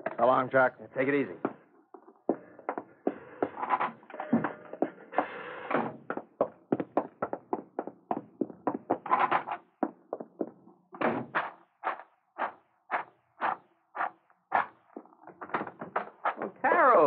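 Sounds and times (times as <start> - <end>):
footsteps walking: 1.4 - 16.6.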